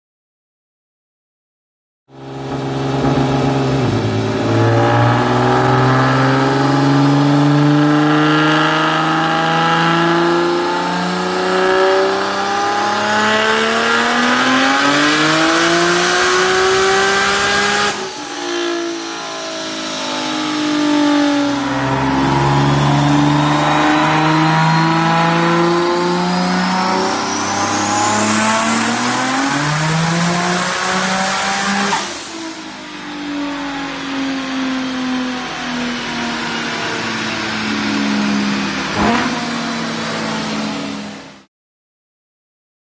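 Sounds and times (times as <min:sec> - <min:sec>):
car engine revving at full throttle: 0:02.1 - 0:41.5.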